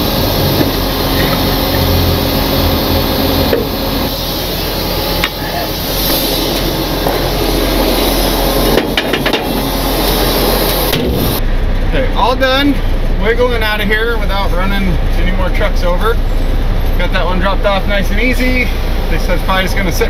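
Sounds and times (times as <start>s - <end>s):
hydraulic hum: 0.0s - 20.0s
truck engine running: 0.0s - 20.0s.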